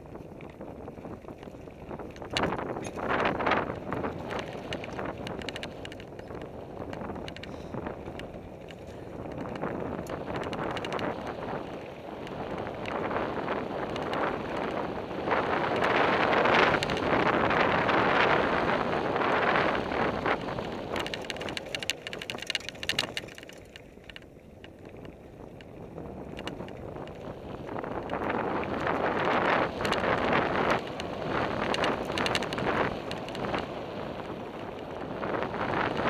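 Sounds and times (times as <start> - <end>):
wind rushing over microphone: 0.0 - 23.5, 24.8 - 36.0
bike clattering over bumps: 0.0 - 36.0
tyres rolling on dirt: 0.0 - 36.0.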